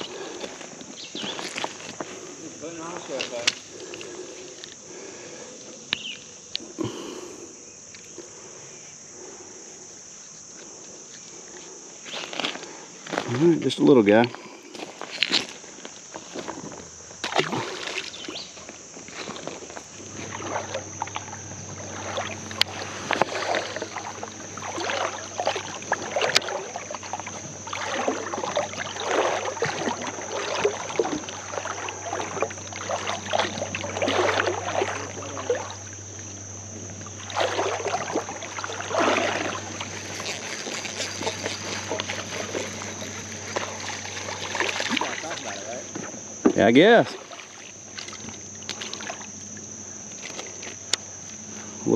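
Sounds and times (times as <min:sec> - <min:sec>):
creek water splashing: 0:00.0 - 0:07.3, 0:12.1 - 0:51.6
steady low hum: 0:00.0 - 0:51.9.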